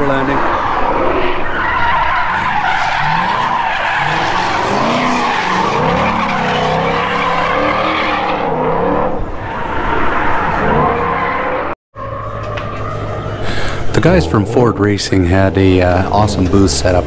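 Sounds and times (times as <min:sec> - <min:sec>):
car tyres squealing: 0:00.0 - 0:17.0
low car rumble: 0:00.0 - 0:17.0.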